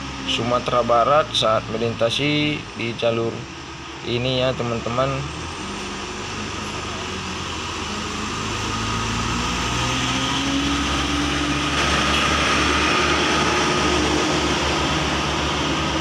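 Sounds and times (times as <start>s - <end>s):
truck diesel engines passing: 0.0s - 16.0s.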